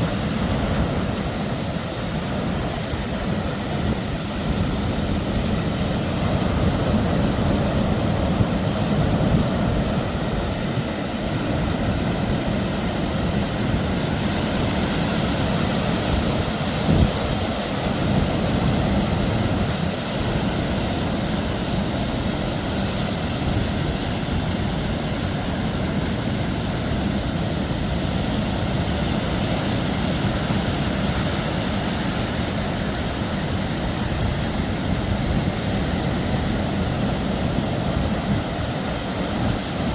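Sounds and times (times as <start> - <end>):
ocean surf: 0.0 - 39.9
wind: 0.0 - 39.9
wind buffeting microphone: 0.0 - 39.9.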